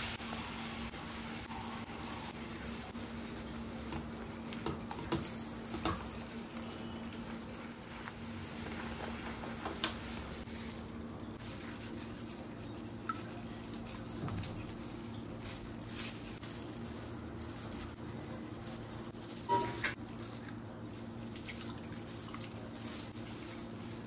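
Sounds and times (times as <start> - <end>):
puree sizzling and bubbling: 0.0 - 24.0.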